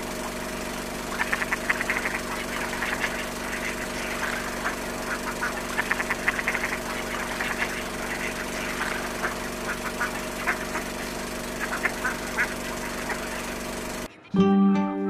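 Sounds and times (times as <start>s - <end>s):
low mechanical hum: 0.0s - 14.2s
ducks quacking: 1.0s - 14.4s.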